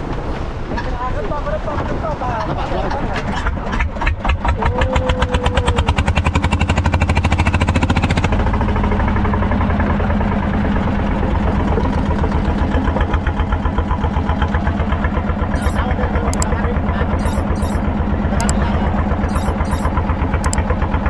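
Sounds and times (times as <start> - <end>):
boat engine pulsing: 0.0 - 21.0.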